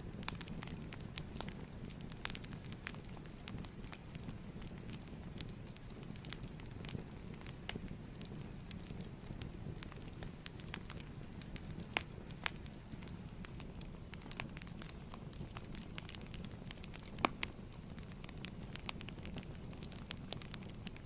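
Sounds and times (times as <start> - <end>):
low rumble of flames: 0.0 - 21.0.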